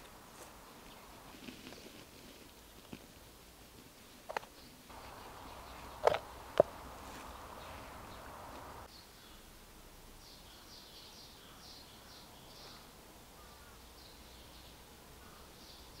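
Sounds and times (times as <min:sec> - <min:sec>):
soft hiss: 0:00.0 - 0:16.0.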